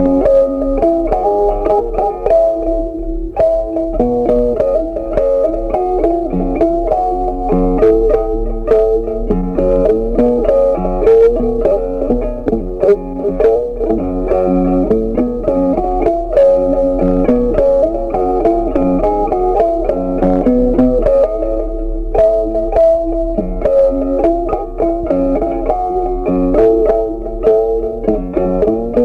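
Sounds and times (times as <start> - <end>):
plucked guitar music: 0.0 - 29.0.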